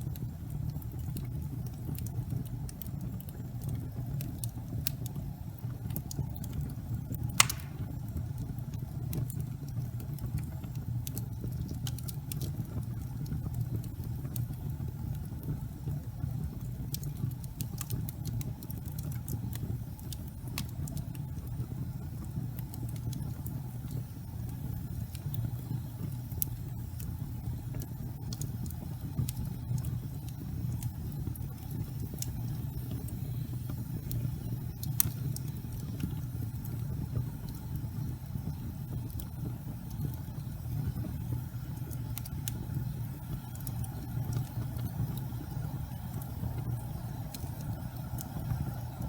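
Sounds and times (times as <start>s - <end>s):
fire crackles and pops: 0.0s - 49.0s
low rumble of flame: 0.0s - 49.0s.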